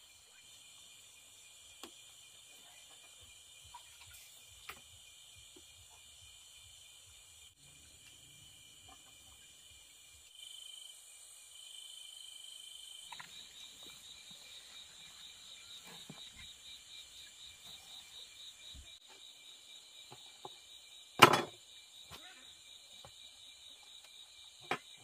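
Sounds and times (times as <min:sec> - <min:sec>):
insects buzzing high-pitched: 0:00.0 - 0:25.0
pulsing insect trill: 0:00.0 - 0:25.0.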